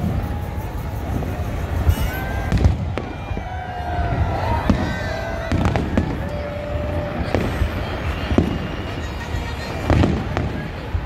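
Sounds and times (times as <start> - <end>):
crowd voices: 0.0 - 11.0
fireworks bangs: 0.0 - 11.0.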